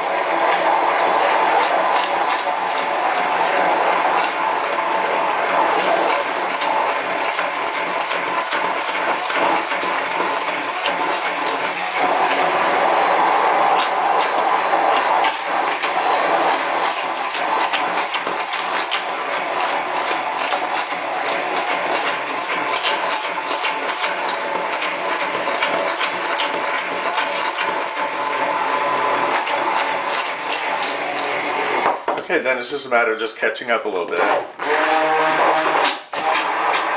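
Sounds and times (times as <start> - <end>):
immersion blender whirring: 0.0 - 32.3, 34.0 - 36.9.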